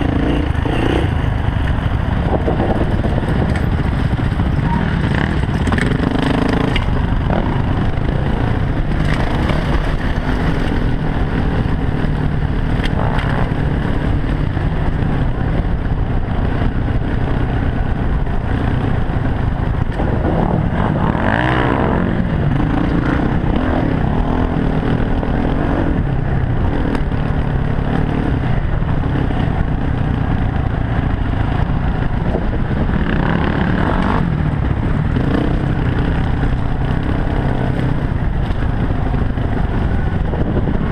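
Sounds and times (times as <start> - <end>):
dirt bike engine: 0.0 - 40.9.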